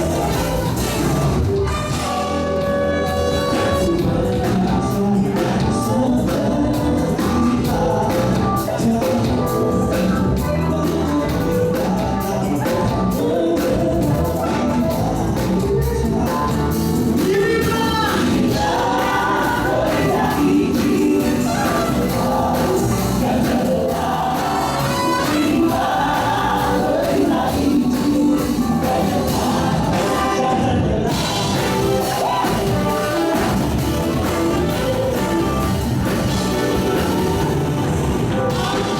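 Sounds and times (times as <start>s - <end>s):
group of singers: 0.0s - 38.9s
live gospel band playing: 0.0s - 38.9s.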